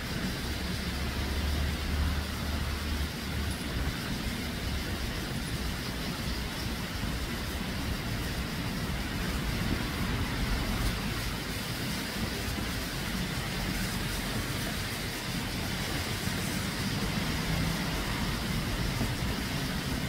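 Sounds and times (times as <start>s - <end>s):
low outdoor rumble with hiss: 0.0s - 20.0s.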